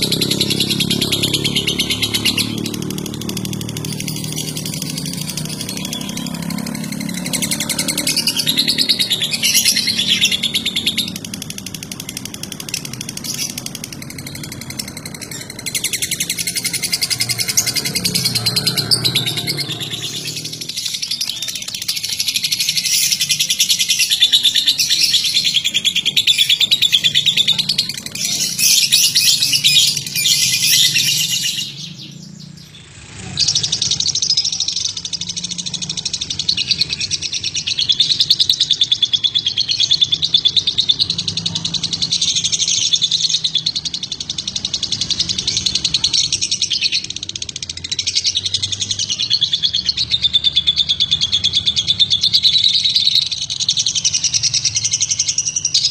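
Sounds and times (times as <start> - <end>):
lovebirds chirping: 0.0 - 55.9.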